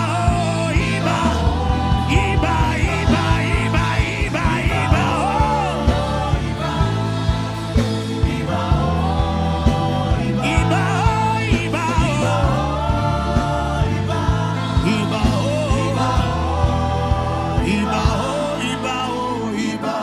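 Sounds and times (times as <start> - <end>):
sustained bass chords: 0.0 - 20.0
steady beat: 0.1 - 18.6.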